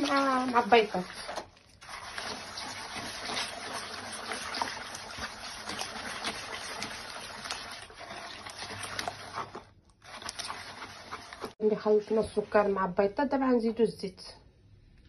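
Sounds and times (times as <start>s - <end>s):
eggs beaten by hand in bowl: 0.0s - 12.8s.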